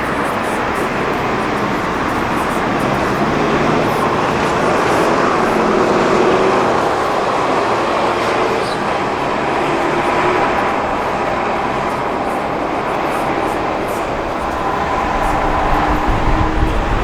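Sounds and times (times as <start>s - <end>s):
tyres droning: 0.0s - 17.0s
van engine droning: 0.0s - 17.0s
wind noise: 0.0s - 17.0s.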